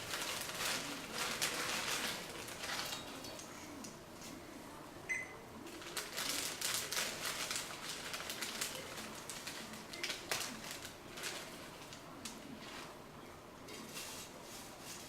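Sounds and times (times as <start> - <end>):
dry noodles crackling: 0.0 - 4.4, 5.6 - 15.0.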